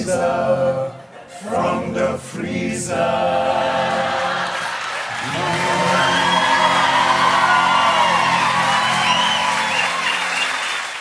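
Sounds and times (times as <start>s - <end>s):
male choir singing close harmony: 0.0s - 9.8s.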